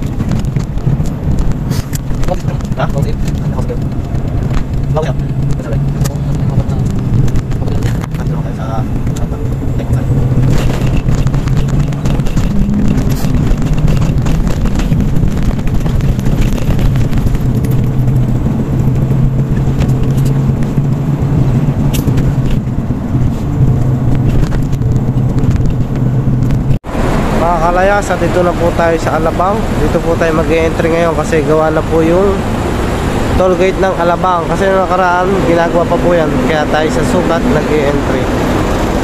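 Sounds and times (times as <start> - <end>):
road and tyre noise: 0.0 - 39.0
truck engine drone: 0.0 - 39.0.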